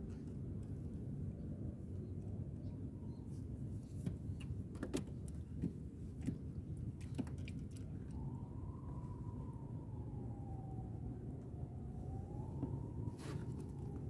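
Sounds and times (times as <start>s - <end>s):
steady low rumble: 0.0s - 7.0s, 7.6s - 14.0s.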